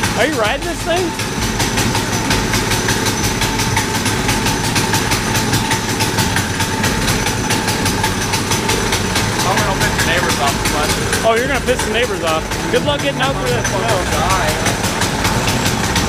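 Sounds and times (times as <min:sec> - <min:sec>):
minibike engine idling: 0:00.0 - 0:16.0.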